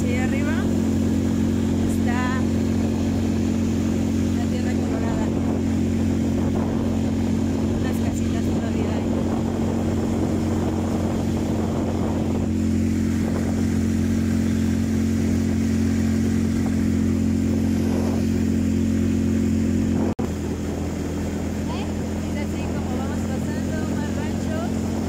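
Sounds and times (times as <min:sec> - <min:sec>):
road noise: 0:00.0 - 0:25.0
vehicle engine running: 0:00.0 - 0:25.0.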